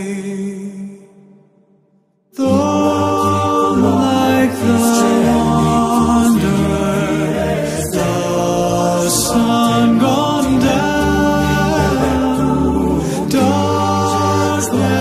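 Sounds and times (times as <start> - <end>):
slow choral singing: 2.4 - 15.0.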